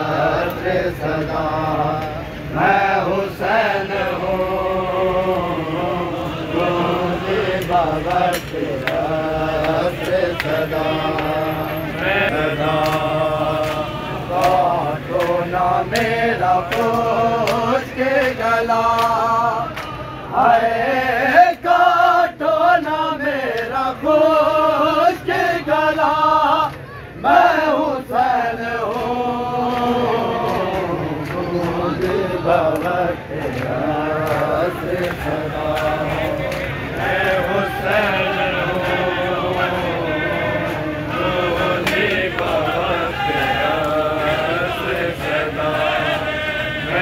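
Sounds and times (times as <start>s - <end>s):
men chanting a lament: 0.0s - 47.0s.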